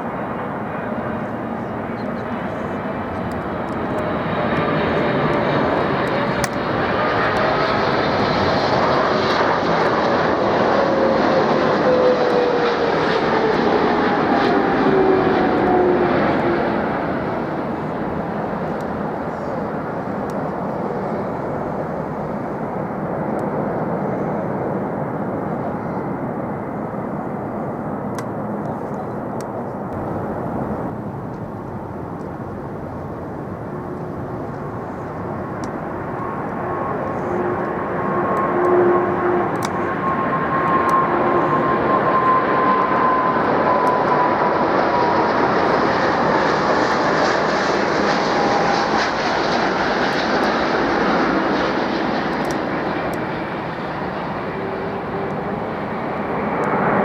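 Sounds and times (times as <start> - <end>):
jet airliner passing: 0.0 - 28.6, 29.2 - 57.0.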